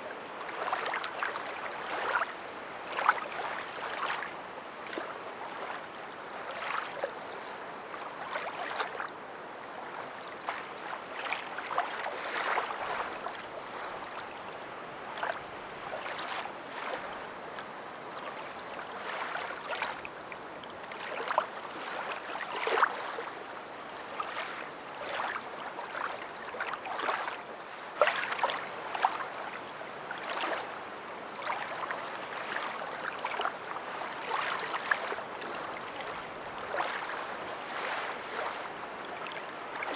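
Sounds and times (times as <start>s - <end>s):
water lapping and splashing: 0.4s - 39.9s.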